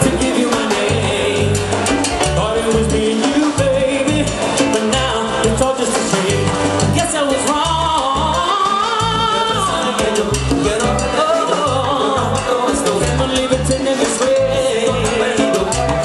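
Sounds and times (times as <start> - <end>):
live salsa band playing: 0.0 - 16.0
man singing: 0.0 - 16.0.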